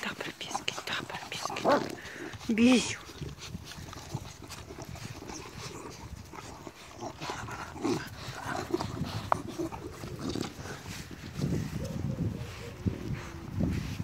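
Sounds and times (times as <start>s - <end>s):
puppies grunting: 0.0s - 13.4s.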